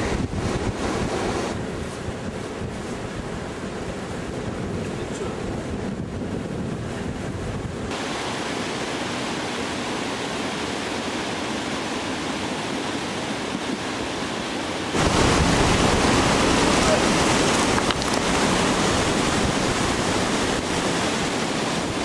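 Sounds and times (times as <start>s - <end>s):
river rushing roar: 0.0s - 22.0s
wind noise on microphone: 0.0s - 22.0s.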